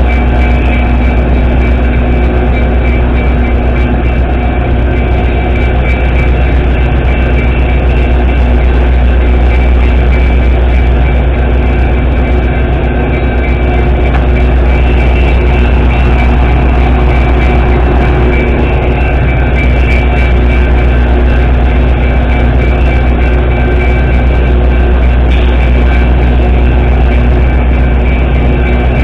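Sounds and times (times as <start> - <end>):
diesel locomotive engine idling: 0.0 - 29.0
steady high whine: 0.0 - 29.0.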